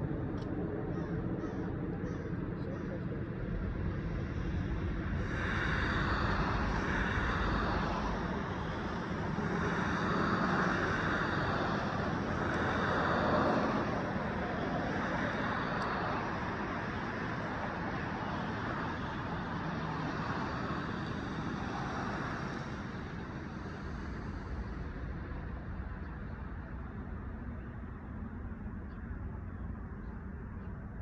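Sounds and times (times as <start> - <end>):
low traffic rumble: 0.0 - 31.0
cars passing with tyre hiss: 3.8 - 29.8.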